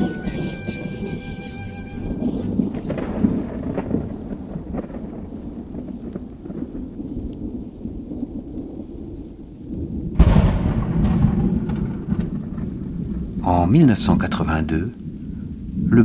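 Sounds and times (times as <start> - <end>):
loud thunderclap: 0.0 - 16.0
thunder rumbling: 0.0 - 16.0.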